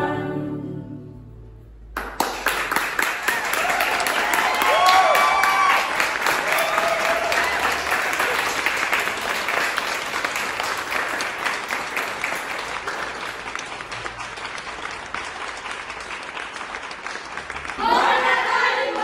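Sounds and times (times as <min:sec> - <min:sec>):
small group clapping: 0:01.9 - 0:19.0.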